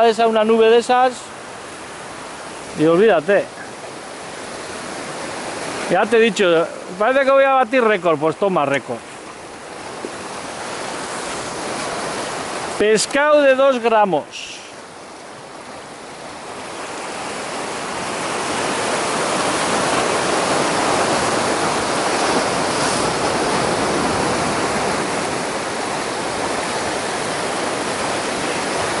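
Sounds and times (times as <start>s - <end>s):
sea surf breaking on rocks: 0.0s - 29.0s.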